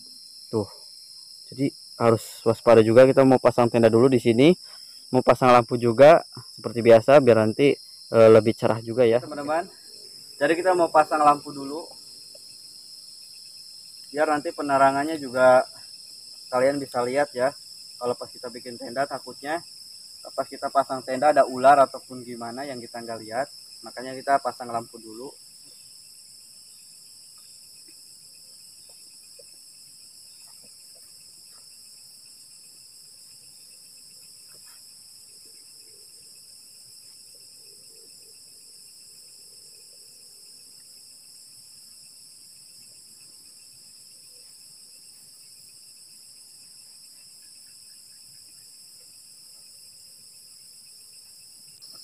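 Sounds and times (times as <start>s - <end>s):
night insects trilling: 0.0s - 52.0s.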